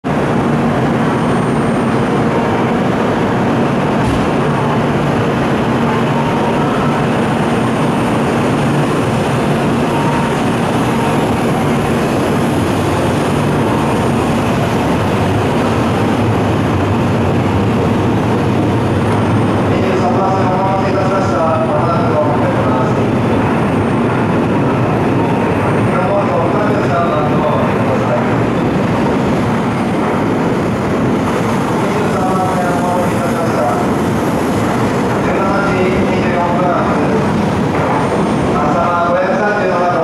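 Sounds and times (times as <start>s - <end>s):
train equipment hum and hiss: 0.1s - 40.0s.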